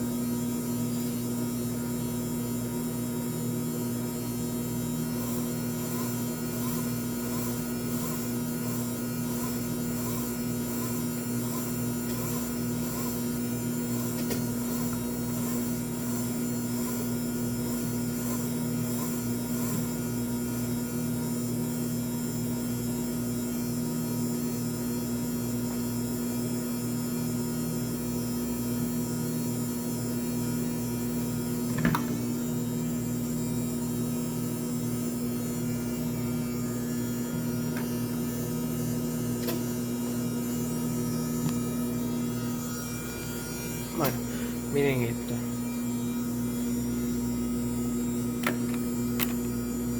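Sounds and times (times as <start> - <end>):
washing machine motor humming: 0.0 - 49.9.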